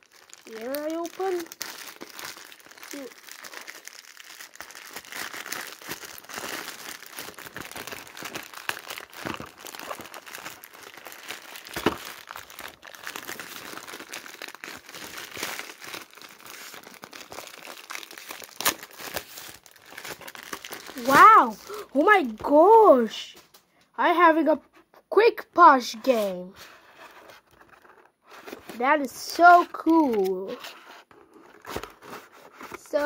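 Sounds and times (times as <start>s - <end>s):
plastic packaging crinkling: 0.0s - 22.8s, 27.0s - 33.0s.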